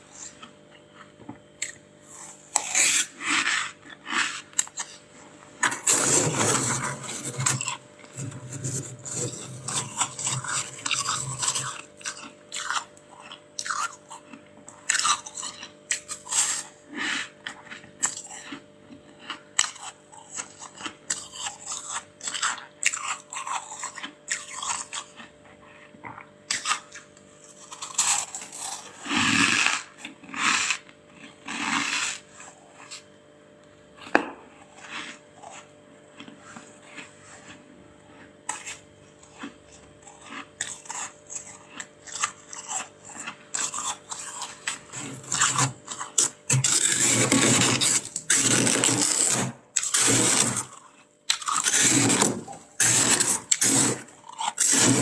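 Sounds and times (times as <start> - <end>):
crisp crunching of chewed frost: 0.1 - 33.1, 34.0 - 55.0.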